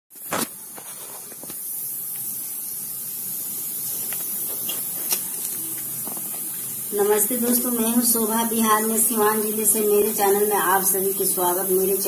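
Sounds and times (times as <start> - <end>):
steady high hiss: 0.1 - 12.0.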